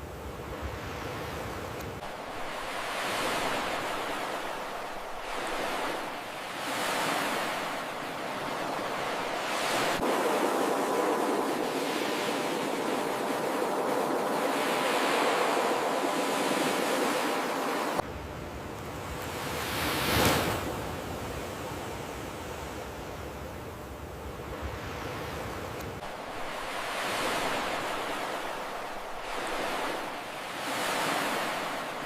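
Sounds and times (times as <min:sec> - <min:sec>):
waves breaking on shore: 0:00.0 - 0:18.0, 0:19.0 - 0:22.8, 0:24.4 - 0:32.0.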